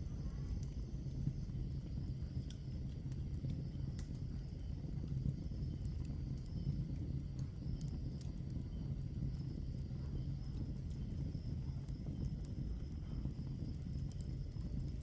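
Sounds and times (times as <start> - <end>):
low rumble of flames: 0.0 - 15.0
wood crackling and popping: 1.8 - 15.0.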